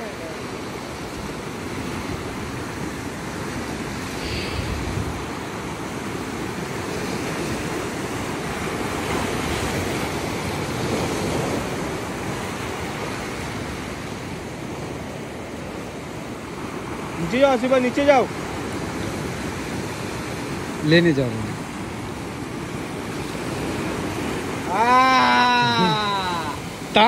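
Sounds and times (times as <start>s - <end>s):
sea surf breaking over rocks: 0.0s - 27.0s.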